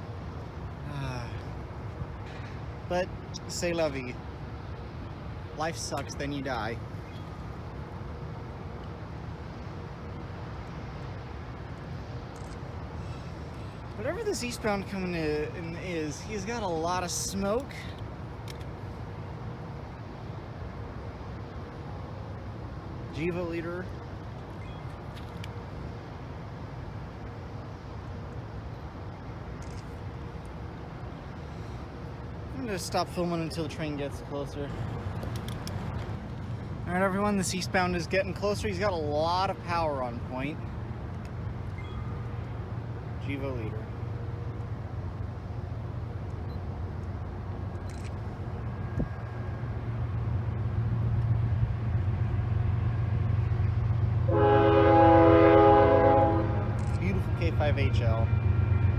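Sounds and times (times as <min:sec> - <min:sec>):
distant diesel locomotives rumbling: 0:00.0 - 0:58.9.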